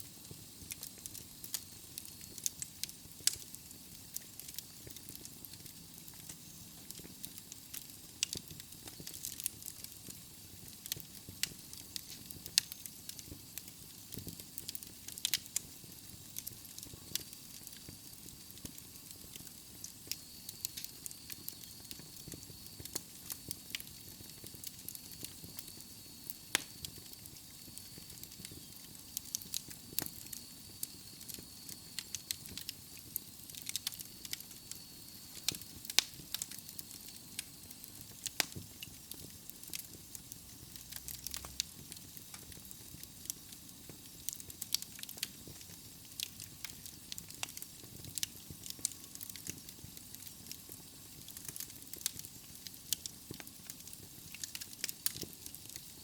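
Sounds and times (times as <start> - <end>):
fire crackling and popping: 0.0 - 56.0
soft fire hiss: 0.0 - 56.0.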